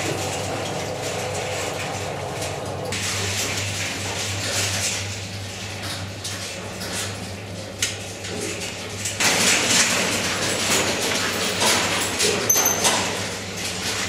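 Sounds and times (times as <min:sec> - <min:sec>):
clicks and clanks of wire cages: 0:00.0 - 0:14.0
low fan hum: 0:00.0 - 0:14.0.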